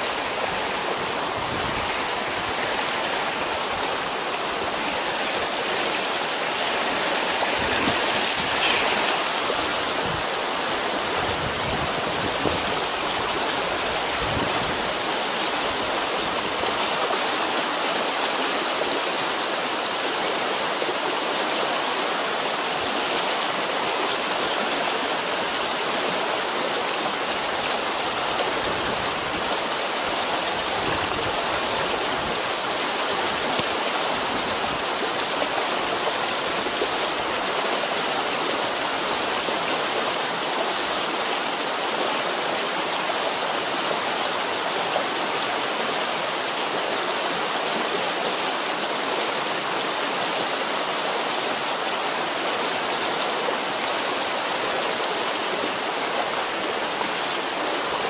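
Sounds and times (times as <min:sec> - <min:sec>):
river rushing over boulders: 0:00.0 - 0:58.0.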